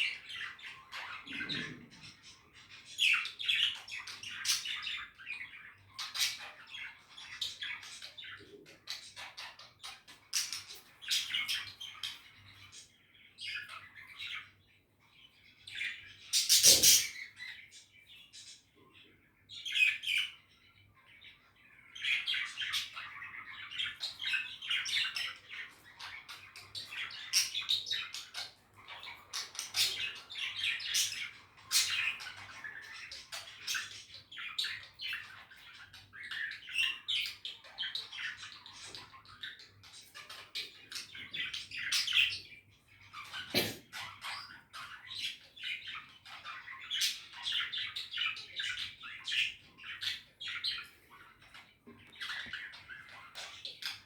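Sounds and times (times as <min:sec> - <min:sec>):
budgies chirping and chattering: 0:00.0 - 0:54.0.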